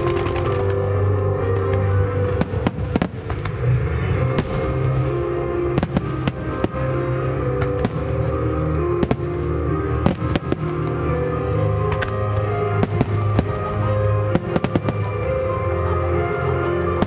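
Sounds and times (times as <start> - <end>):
music with long held notes: 0.0 - 17.0.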